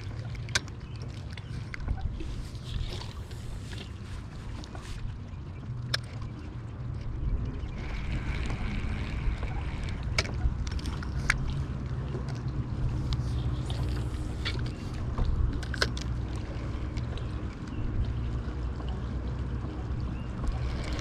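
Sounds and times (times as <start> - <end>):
steady low rumble: 0.0 - 21.0
water lapping against boat hull: 0.0 - 21.0.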